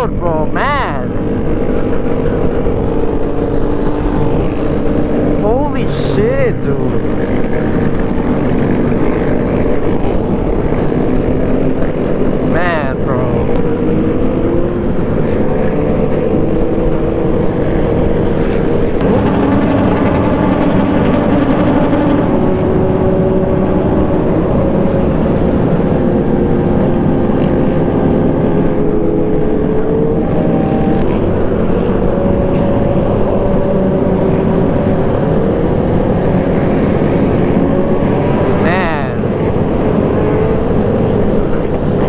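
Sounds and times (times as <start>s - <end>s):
motorcycle engine cruising: 0.0s - 42.0s
wind rush on microphone: 0.0s - 42.0s.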